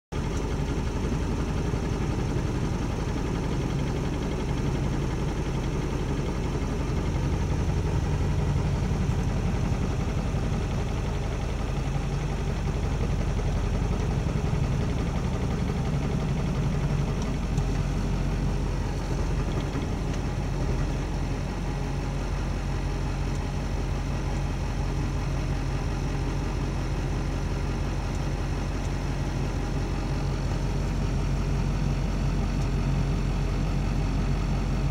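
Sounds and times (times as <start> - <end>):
diesel engine idling roughly: 0.2 - 34.9.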